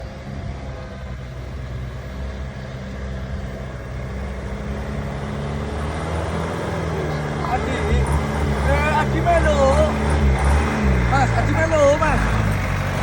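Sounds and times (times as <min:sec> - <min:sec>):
vehicle engine running under load: 0:00.0 - 0:13.0.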